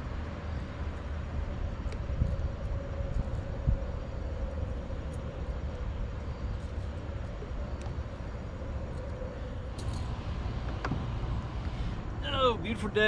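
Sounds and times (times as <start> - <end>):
faint wavering hum: 0.0 - 13.0
steady low rumble: 0.0 - 13.0.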